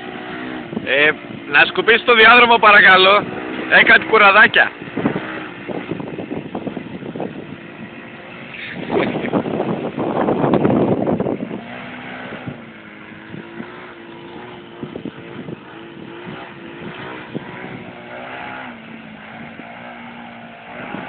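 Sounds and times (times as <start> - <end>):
wind buffeting on microphone: 0.0 - 21.0.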